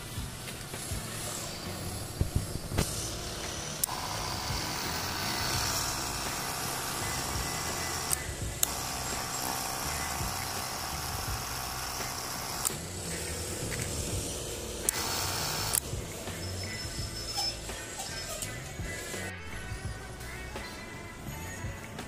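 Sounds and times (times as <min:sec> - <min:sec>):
electric pump motor running: 0:00.0 - 0:19.3.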